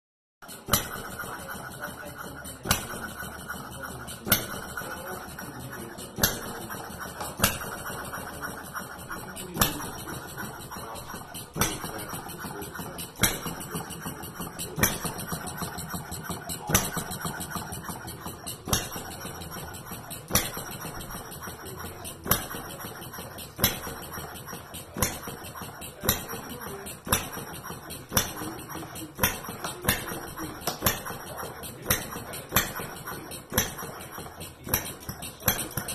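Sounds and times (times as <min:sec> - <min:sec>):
engine flywheel clatter: 0:00.4 - 0:35.9
model engine popping: 0:00.4 - 0:35.9.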